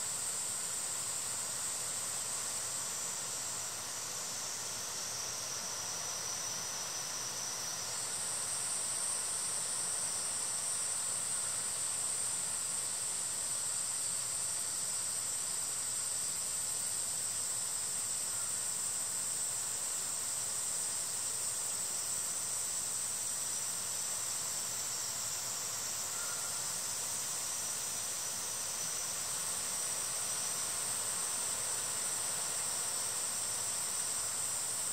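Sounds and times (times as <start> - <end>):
high-pitched hiss: 0.0 - 34.9.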